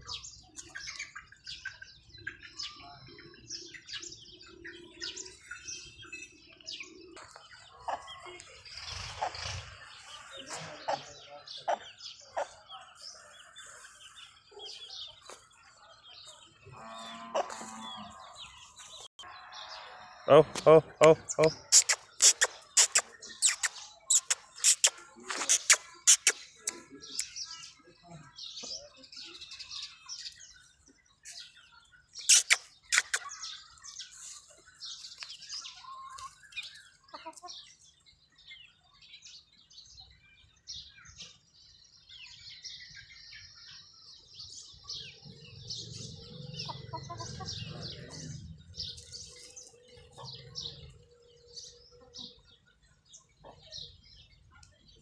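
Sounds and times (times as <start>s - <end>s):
chickens chirping: 0.0s - 55.0s.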